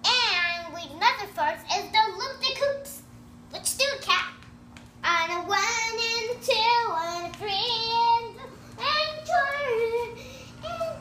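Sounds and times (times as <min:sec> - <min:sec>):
child singing wordlessly: 0:00.0 - 0:04.4, 0:05.0 - 0:11.0.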